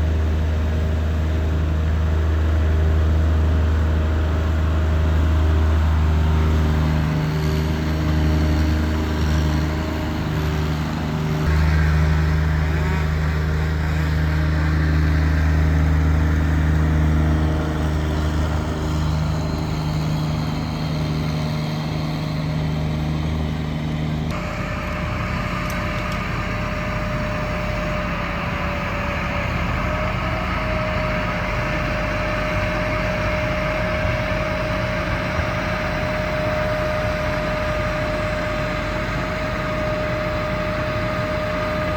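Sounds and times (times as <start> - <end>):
low engine drone: 0.0 - 41.9
machine whine: 3.3 - 41.9.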